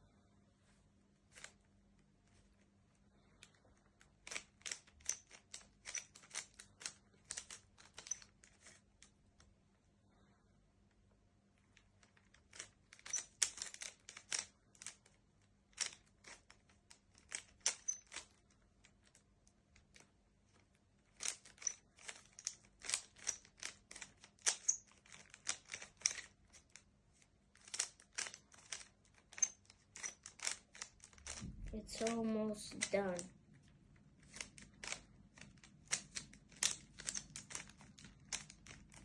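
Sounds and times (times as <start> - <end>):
puzzle cube twisting clicks: 1.3 - 2.6, 3.4 - 9.5, 11.6 - 39.0.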